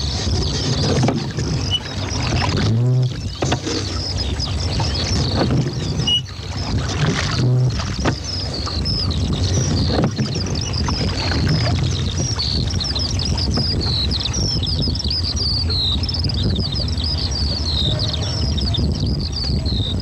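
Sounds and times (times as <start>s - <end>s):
steady low rumble: 0.0s - 20.0s
rapid high chirping birdsong: 0.1s - 6.7s, 7.8s - 20.0s.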